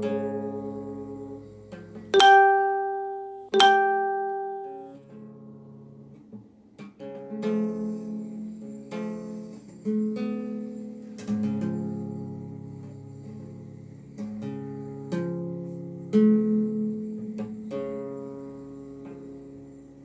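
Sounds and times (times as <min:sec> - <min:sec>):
acoustic guitar music: 0:00.0 - 0:19.5.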